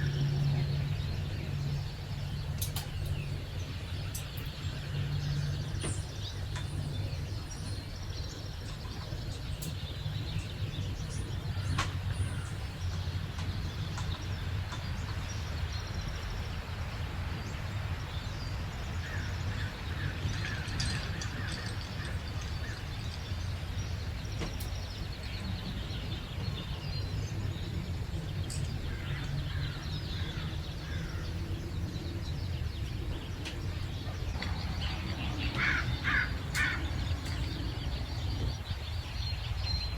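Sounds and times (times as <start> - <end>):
low background rumble: 0.0 - 39.9
songbirds chirping and trilling: 0.0 - 39.9.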